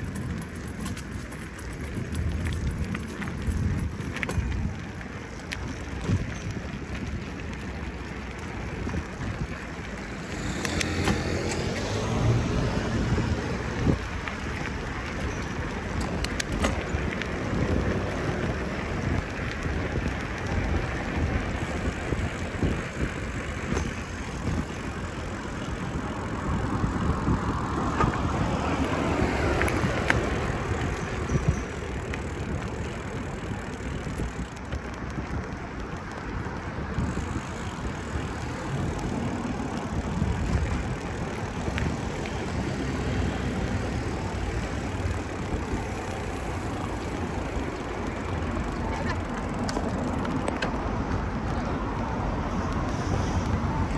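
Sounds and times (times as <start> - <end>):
bicycle riding rush and rumble: 0.0 - 53.9
bike rattles: 0.0 - 53.9.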